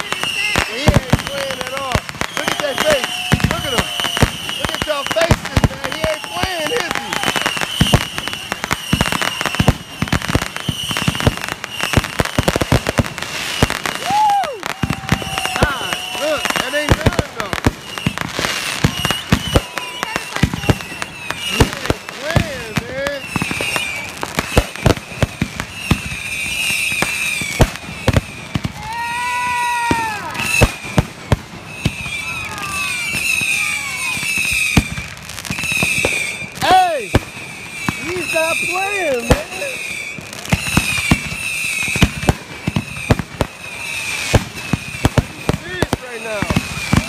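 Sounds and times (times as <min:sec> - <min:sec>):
fireworks bursts and crackles: 0:00.0 - 0:47.0.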